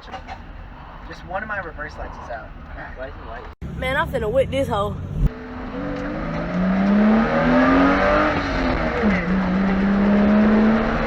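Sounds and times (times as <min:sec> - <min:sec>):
car engine accelerating: 0:01.0 - 0:11.0.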